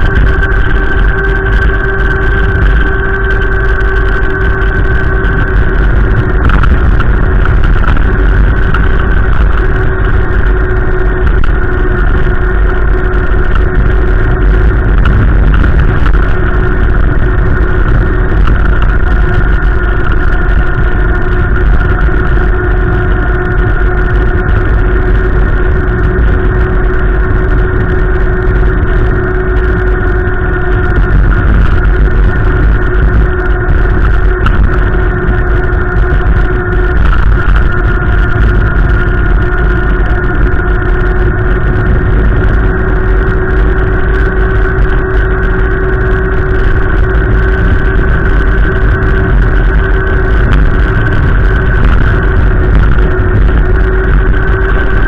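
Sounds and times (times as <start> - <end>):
droning hum: 0.0 - 55.0
vehicle low rumble: 0.0 - 55.0.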